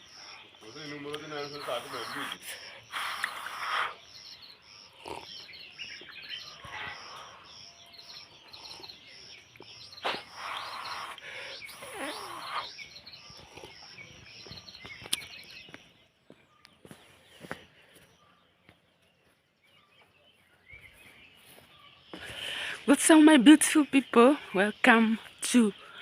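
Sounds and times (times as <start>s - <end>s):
birds chirping and singing: 0.0s - 26.0s.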